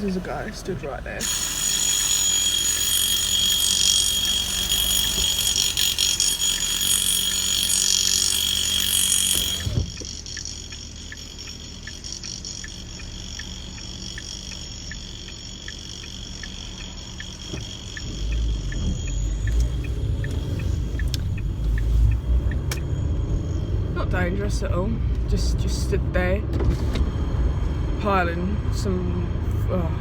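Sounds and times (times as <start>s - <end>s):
high-pitched machine whine: 0.0s - 25.8s
steady ticking: 0.0s - 26.1s
low engine rumble: 0.0s - 30.0s.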